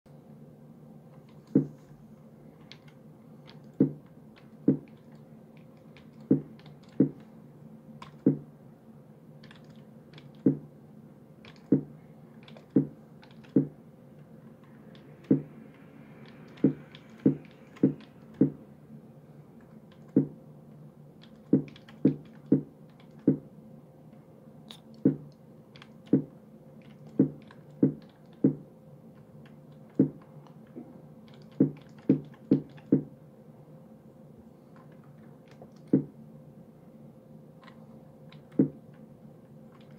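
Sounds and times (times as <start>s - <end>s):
faint steady hum: 0.1s - 39.9s.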